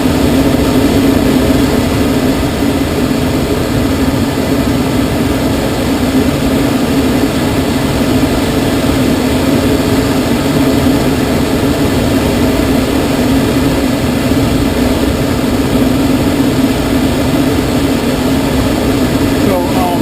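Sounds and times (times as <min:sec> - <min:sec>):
air rushing past cockpit: 0:00.0 - 0:20.0
low droning hum: 0:00.0 - 0:20.0.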